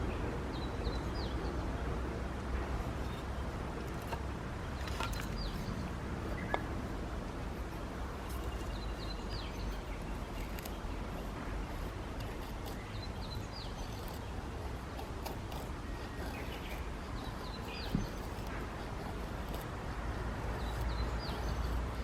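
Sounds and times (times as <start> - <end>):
outdoor background rush: 0.0 - 22.0.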